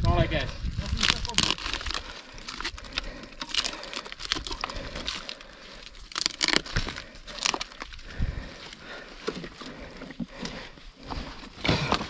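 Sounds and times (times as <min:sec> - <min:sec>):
rustling and crunching: 0:00.0 - 0:12.0.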